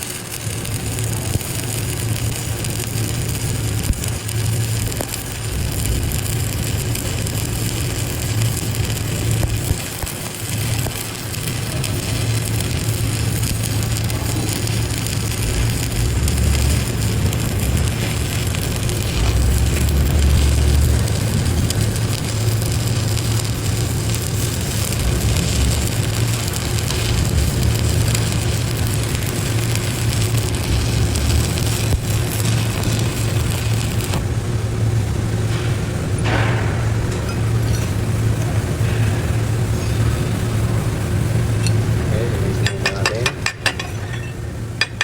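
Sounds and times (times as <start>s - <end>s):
welding arc crackle and hiss: 0.0s - 45.0s
low hum: 2.4s - 9.8s, 11.5s - 45.0s.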